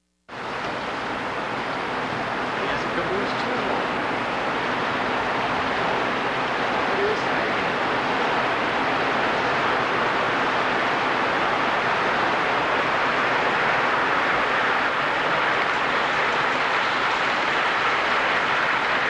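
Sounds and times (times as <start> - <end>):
model train wheels on rails: 0.3 - 19.0.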